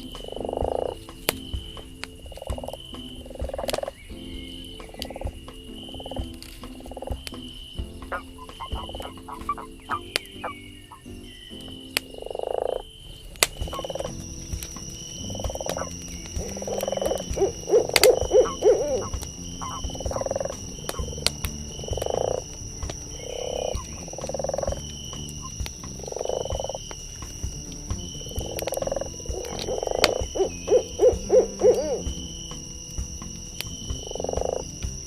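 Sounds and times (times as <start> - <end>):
owl hooting: 0.0 - 32.7
campfire crackling: 0.0 - 35.0
high insect trill: 0.0 - 35.0.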